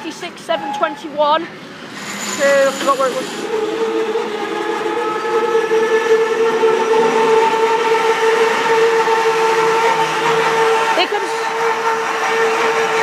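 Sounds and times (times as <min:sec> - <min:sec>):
diesel locomotive whine: 0:00.0 - 0:13.0.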